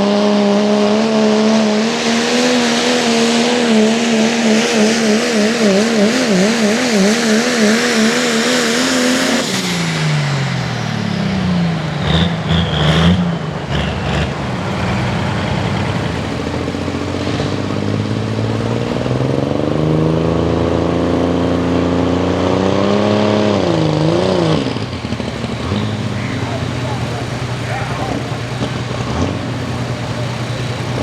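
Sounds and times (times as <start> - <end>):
diesel truck engine under load: 0.0 - 31.0.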